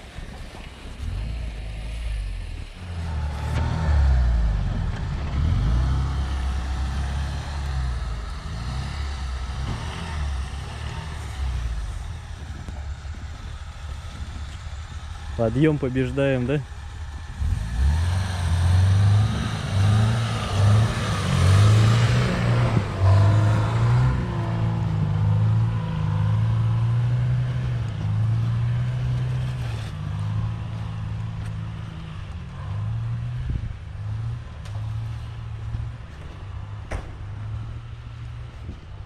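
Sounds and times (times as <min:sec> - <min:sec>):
off-road vehicle engine revving: 0:00.0 - 0:39.0.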